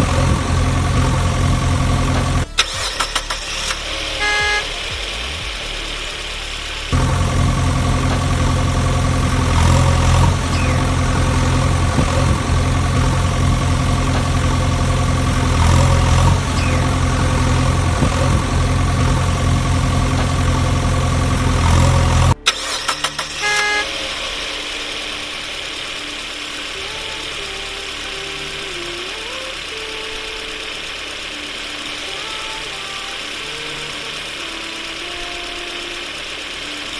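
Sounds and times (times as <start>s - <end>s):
short horn-like tones: 0.0s - 36.9s
vehicle engine running: 0.0s - 36.9s.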